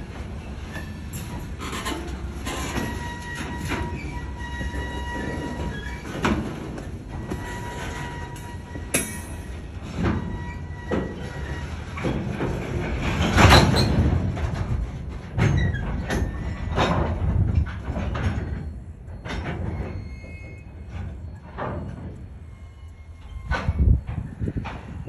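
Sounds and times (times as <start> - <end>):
train car wheels rumbling: 0.0 - 25.0.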